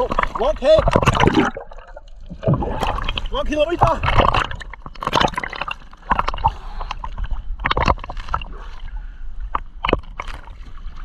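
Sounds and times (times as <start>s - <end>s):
water splashing from swimming: 0.0s - 8.9s.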